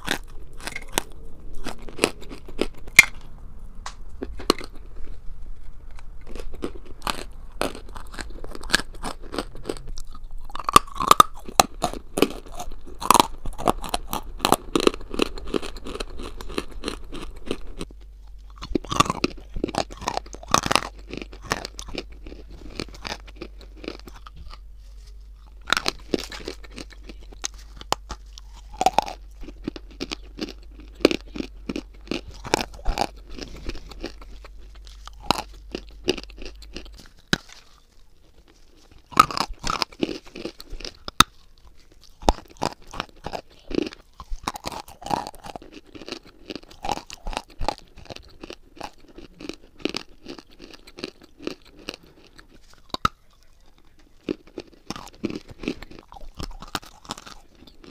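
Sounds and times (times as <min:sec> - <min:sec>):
person crunching and chewing chalk: 0:00.0 - 0:03.3, 0:03.9 - 0:57.9.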